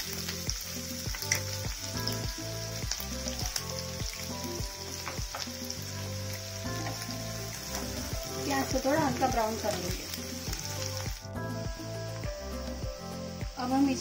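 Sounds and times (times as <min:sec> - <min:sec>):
background music with steady beat: 0:00.0 - 0:14.0
onions sizzling in oil: 0:00.0 - 0:14.0.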